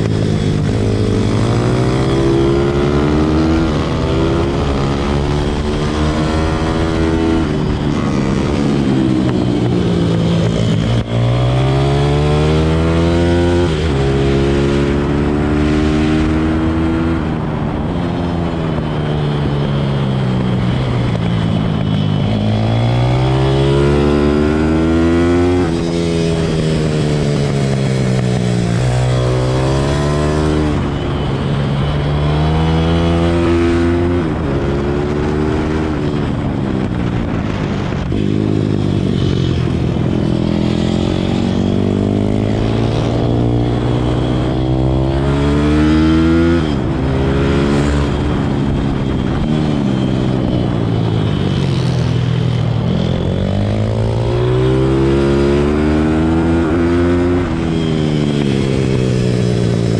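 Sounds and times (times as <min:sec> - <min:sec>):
motorbike engine revving: 0:00.0 - 0:17.9, 0:20.4 - 0:59.9.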